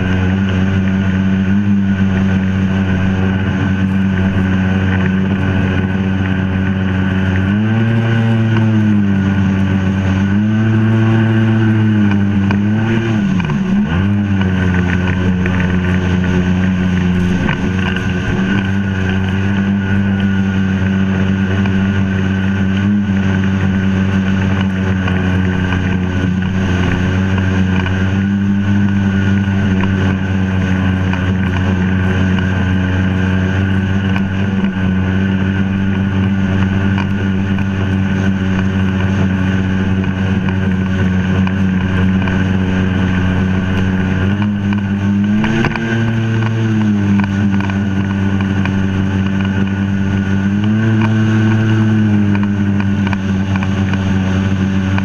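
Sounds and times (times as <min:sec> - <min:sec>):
watercraft engine running: 0:00.0 - 0:55.0
wind and water spray: 0:00.0 - 0:55.0.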